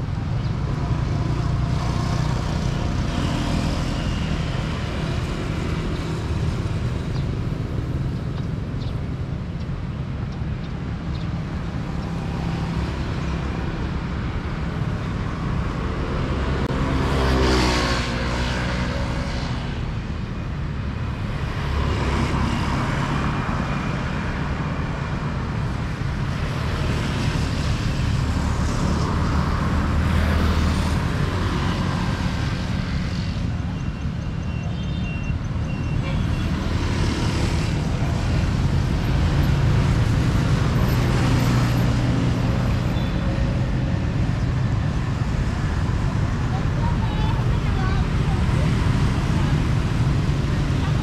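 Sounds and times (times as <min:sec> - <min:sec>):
rumble of engines: 0:00.0 - 0:51.0
vehicles passing by: 0:00.0 - 0:51.0.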